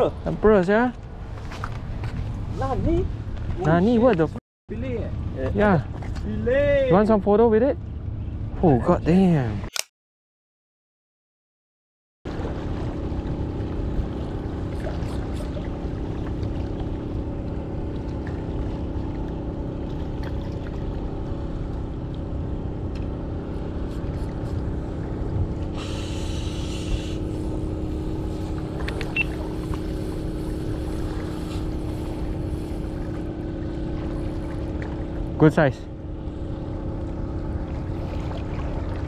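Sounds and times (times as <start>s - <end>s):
boat engine rumbling: 0.0s - 9.6s, 12.3s - 39.0s.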